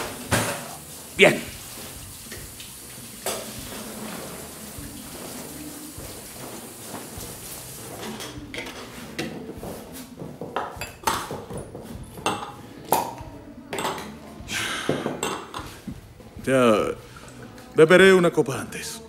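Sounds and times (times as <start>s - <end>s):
dishes and bottles clinking: 0.0s - 17.8s.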